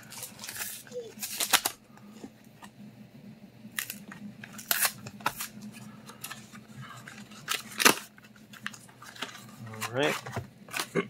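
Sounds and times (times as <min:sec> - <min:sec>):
foil wrapper crinkling and ripping: 0:00.0 - 0:01.8, 0:03.7 - 0:11.0.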